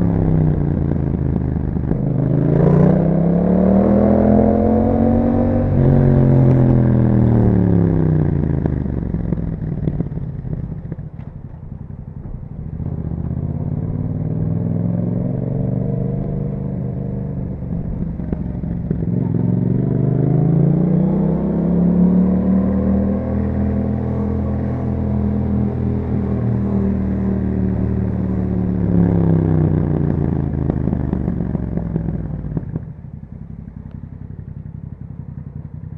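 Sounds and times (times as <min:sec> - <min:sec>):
motorcycle engine: 0:00.0 - 0:35.9.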